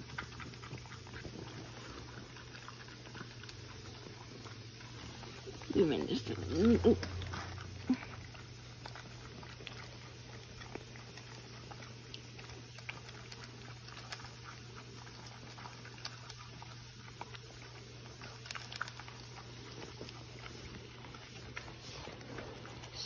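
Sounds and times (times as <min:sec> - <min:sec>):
dog crunching kibble: 0:00.0 - 0:23.0
faint steady hum: 0:00.0 - 0:23.0.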